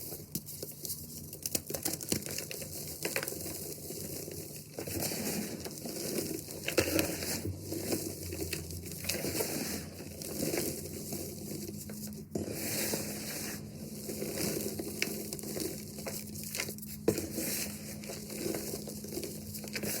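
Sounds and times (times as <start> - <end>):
chalk blocks crunching: 0.0 - 20.0.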